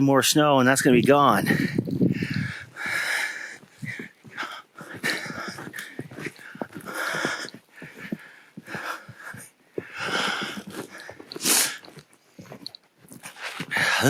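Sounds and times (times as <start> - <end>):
footsteps crunching in snow: 0.6 - 14.0
person breathing: 1.4 - 14.0.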